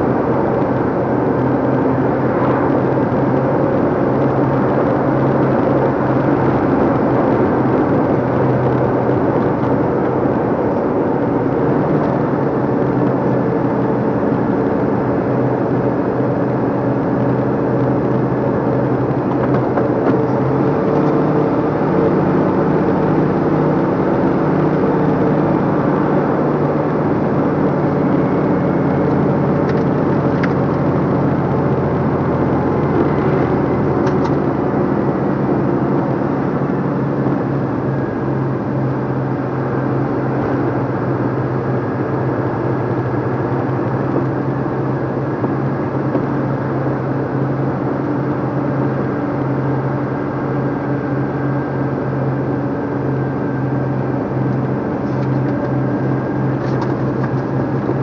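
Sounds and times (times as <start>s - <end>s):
road noise: 0.0s - 58.0s
truck diesel engine running: 0.0s - 58.0s.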